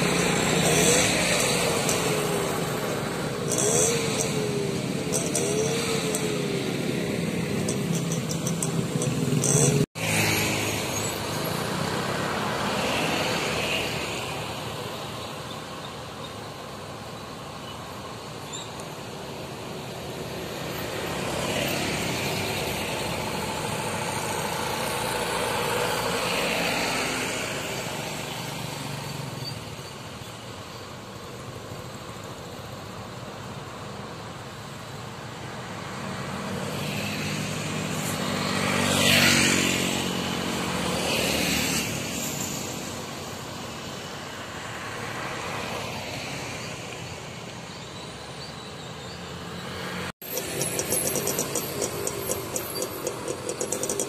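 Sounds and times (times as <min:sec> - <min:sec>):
motor scooters passing: 0:00.0 - 0:30.6, 0:33.4 - 0:54.0.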